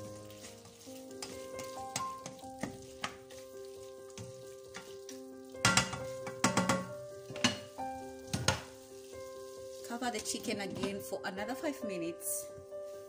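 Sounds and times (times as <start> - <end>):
chicken sizzling in a pan: 0.0 - 10.9
spatula scraping and tapping pan: 0.0 - 11.2
soft background music: 0.0 - 13.0.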